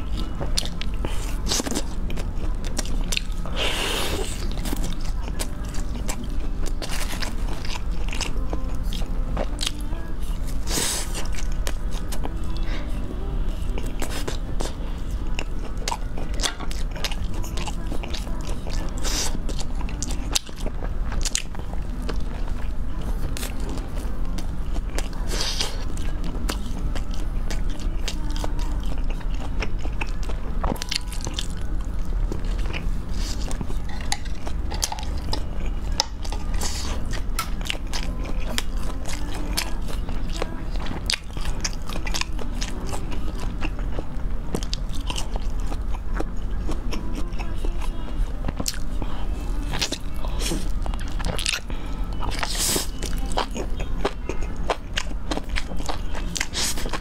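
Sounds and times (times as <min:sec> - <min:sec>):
chewing and crunching food: 0:00.0 - 0:57.0
steady low hum: 0:00.0 - 0:57.0.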